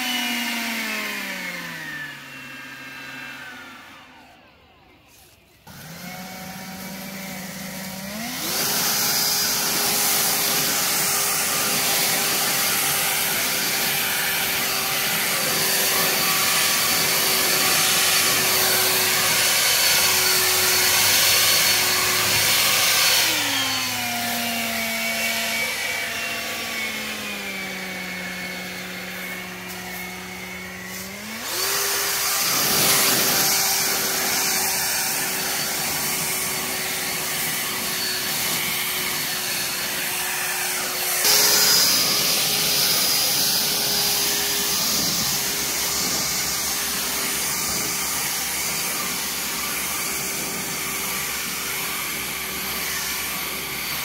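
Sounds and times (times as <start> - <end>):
leaf blower motor whine: 0.0 - 54.0.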